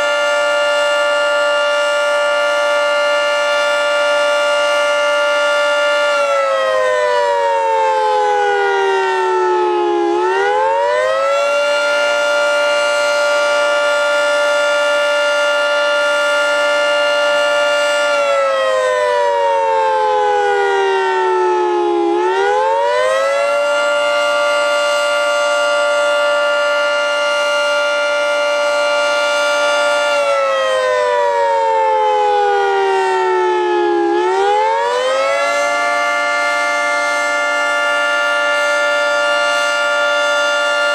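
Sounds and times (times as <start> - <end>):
warning siren wailing: 0.0 - 40.9.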